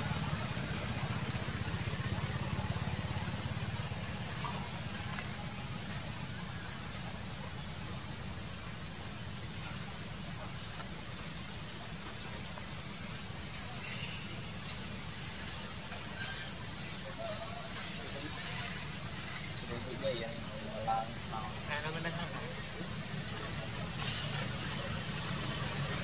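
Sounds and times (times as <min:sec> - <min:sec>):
high-pitched insect chorus: 0:00.0 - 0:26.0
low steady rumble: 0:00.0 - 0:26.0.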